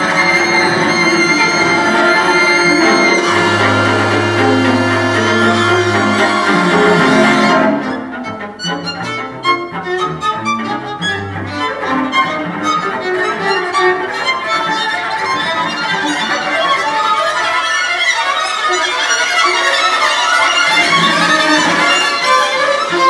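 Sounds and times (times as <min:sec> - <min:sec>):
violin and strings music: 0:00.0 - 0:23.0.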